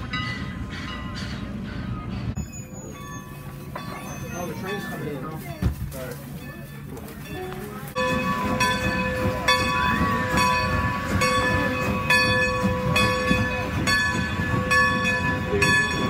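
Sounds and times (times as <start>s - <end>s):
locomotive bell ringing: 0.0s - 16.0s
train rolling rumble: 0.0s - 16.0s.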